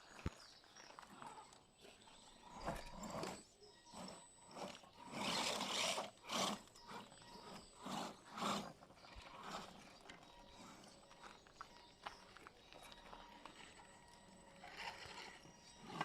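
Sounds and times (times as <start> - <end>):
toy truck driving over rough ground: 0.0 - 16.0.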